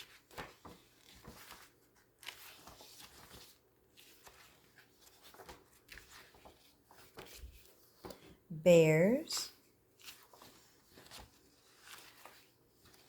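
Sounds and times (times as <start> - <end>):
magazine pages rustling: 0.0 - 8.4, 9.7 - 13.0.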